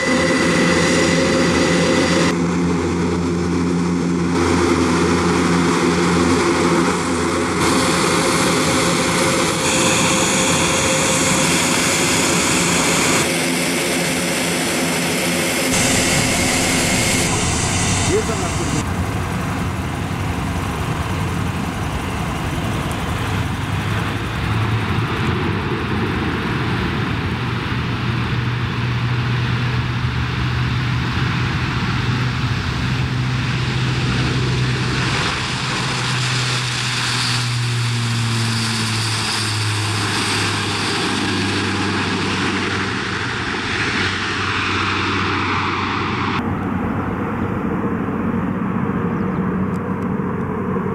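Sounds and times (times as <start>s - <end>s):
turboprop engines droning: 0.0s - 50.9s.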